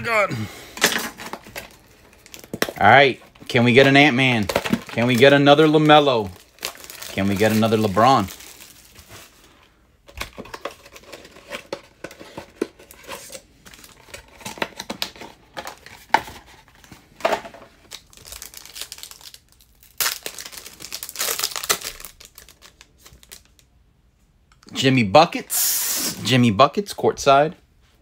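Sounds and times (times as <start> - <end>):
foil pack crinkling: 0.8 - 23.7.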